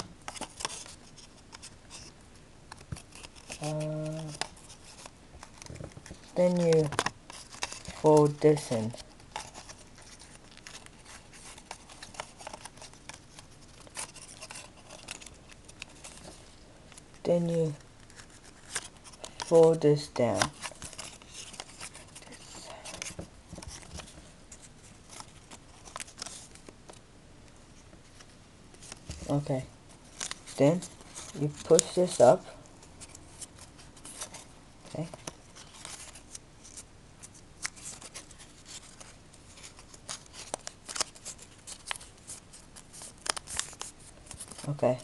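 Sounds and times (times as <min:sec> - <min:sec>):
paper being folded and creased: 0:00.0 - 0:27.0, 0:28.0 - 0:45.0.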